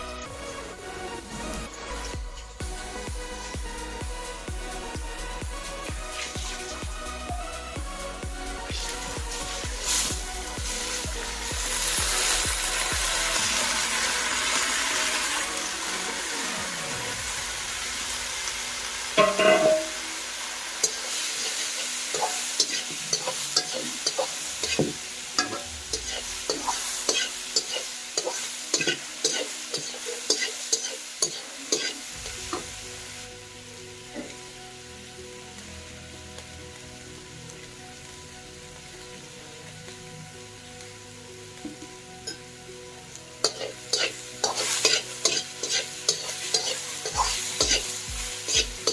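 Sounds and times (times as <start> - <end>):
food sizzling in a frying pan: 0.0 - 48.9.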